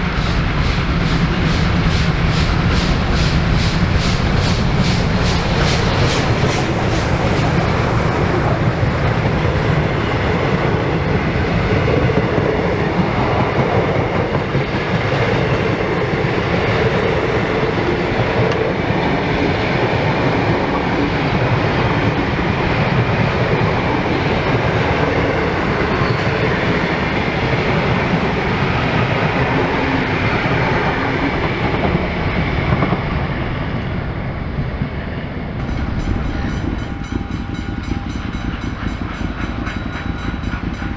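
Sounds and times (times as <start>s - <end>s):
steam exhaust beats: 0.0s - 40.9s
train carriages clickety-clack: 0.0s - 40.9s.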